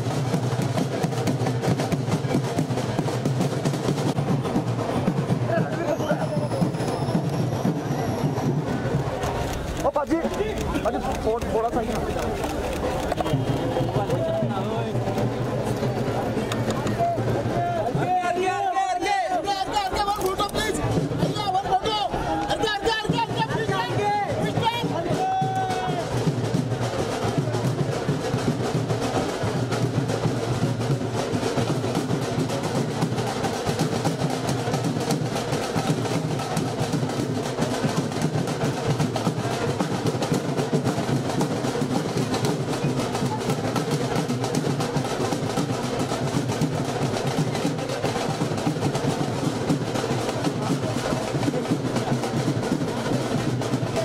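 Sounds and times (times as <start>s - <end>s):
dhol drum beating: 0.0s - 54.0s.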